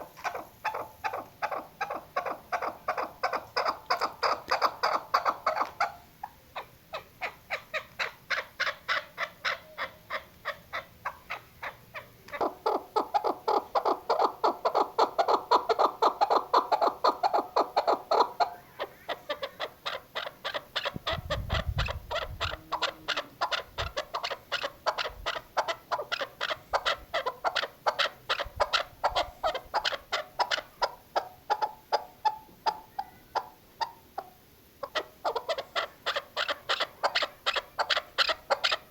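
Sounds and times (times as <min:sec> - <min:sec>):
partridge clucking call: 0:00.0 - 0:38.9.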